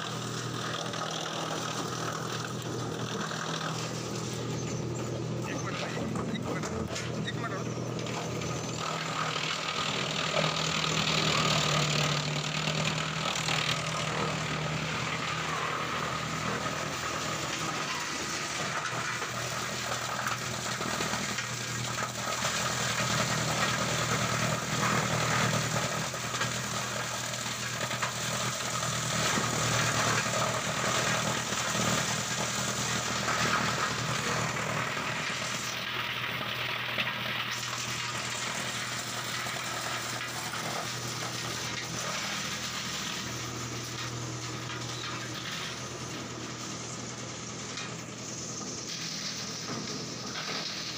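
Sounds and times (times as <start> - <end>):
wood chipper running: 0.0 - 50.9
wood knocking in chipper: 0.0 - 50.9.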